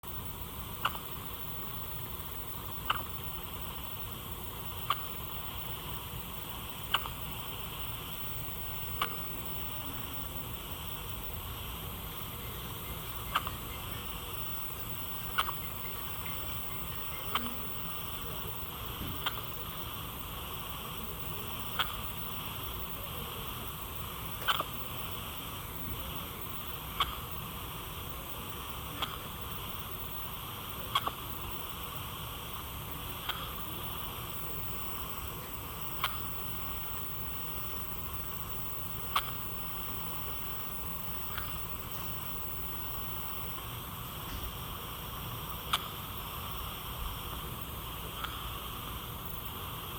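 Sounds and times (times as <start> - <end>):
steady low hiss: 0.0 - 49.9.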